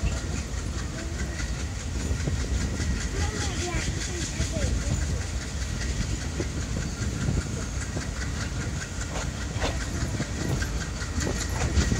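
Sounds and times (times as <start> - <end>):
train rumble and air rush: 0.0 - 11.9.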